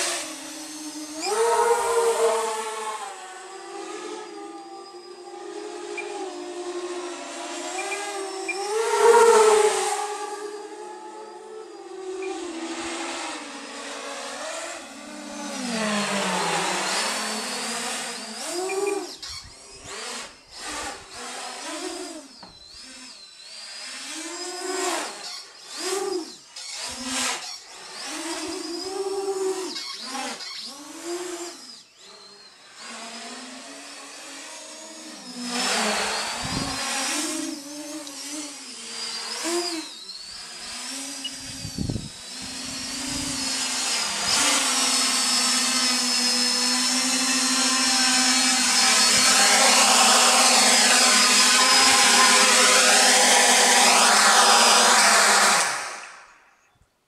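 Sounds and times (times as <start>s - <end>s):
quadcopter motors whining: 0.0s - 56.8s.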